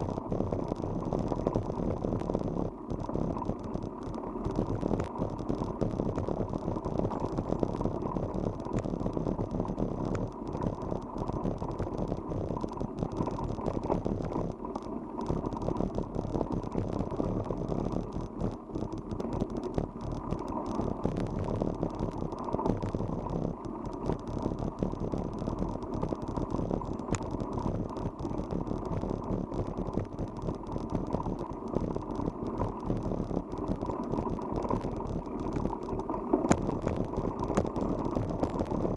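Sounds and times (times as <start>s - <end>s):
bicycle rolling and rattling: 0.0s - 38.9s.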